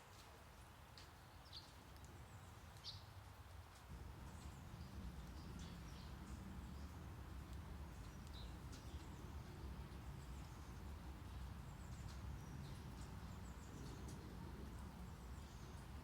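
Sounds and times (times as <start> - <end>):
low brown noise: 0.0 - 16.0.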